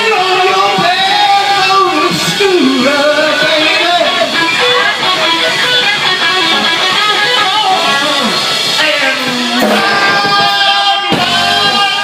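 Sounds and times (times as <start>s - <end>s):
electric guitar: 0.0s - 12.0s
live rock band playing: 0.0s - 12.0s.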